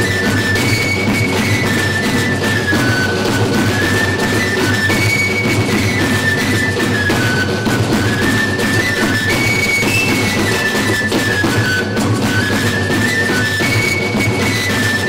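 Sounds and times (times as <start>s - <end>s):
folk band playing dance tune: 0.0s - 15.0s
steady drumming: 0.0s - 15.0s.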